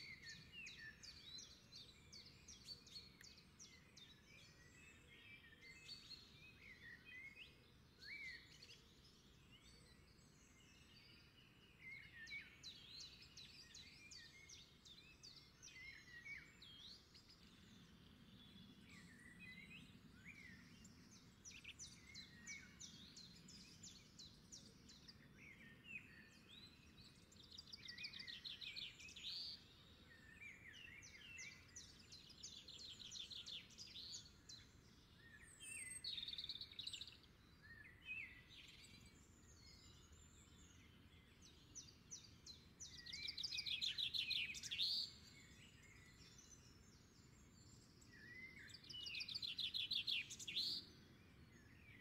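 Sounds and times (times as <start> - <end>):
birds singing and calling: 0.0 - 52.0.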